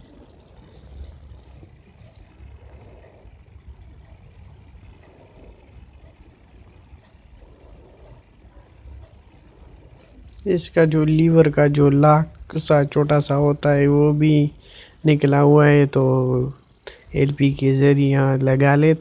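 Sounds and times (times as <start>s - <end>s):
faint low rumble: 0.0s - 19.0s
soft irregular sounds: 0.0s - 19.0s.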